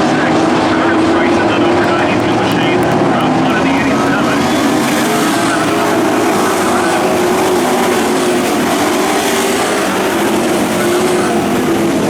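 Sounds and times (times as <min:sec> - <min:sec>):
race truck engines droning: 0:00.0 - 0:12.0.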